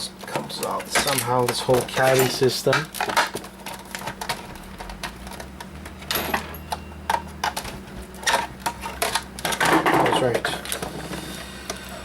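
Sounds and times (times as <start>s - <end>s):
plastic and metal parts rattling: 0.3s - 6.5s, 7.1s - 11.0s.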